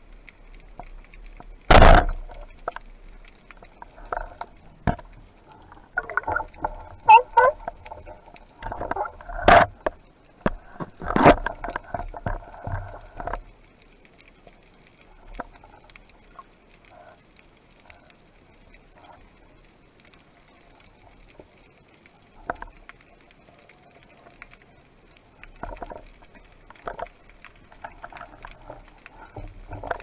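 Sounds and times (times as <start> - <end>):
faint clicks and taps: 0.0 - 30.0
water splashing and sloshing: 0.0 - 30.0.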